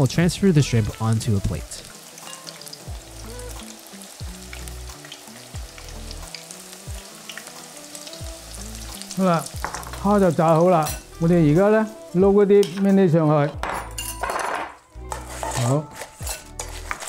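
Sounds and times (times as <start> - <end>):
shrimp sizzling in hot oil: 0.0 - 13.0, 14.9 - 17.0
soft background music: 0.0 - 17.0.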